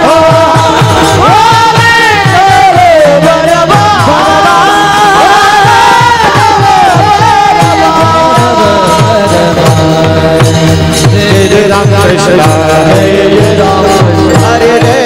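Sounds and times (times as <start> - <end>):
keyboard melody: 0.0 - 15.0
man singing: 0.0 - 15.0
steady low drum beat: 0.0 - 15.0.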